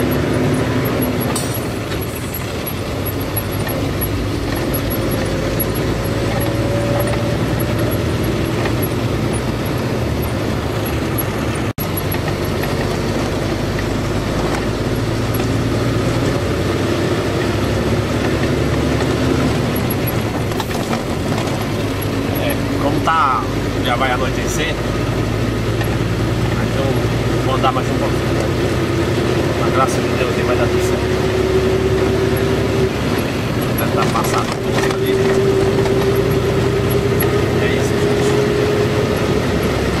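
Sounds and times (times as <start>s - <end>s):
truck engine running: 0.0s - 40.0s
tyre and road noise: 0.0s - 40.0s.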